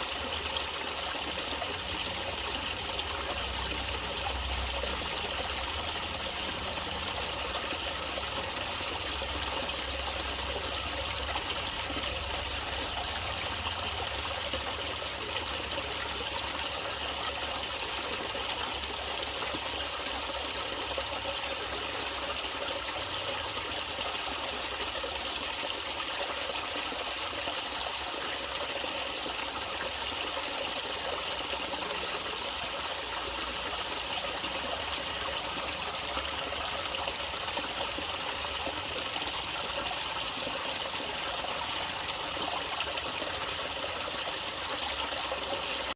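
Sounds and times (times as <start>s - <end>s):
water trickling and splashing: 0.0s - 45.9s.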